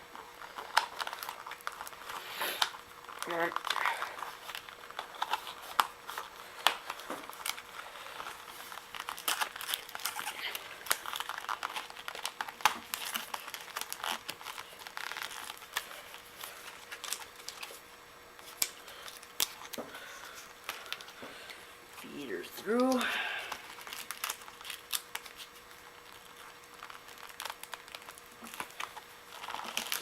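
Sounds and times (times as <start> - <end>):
foam pad crinkling: 0.0 - 30.0.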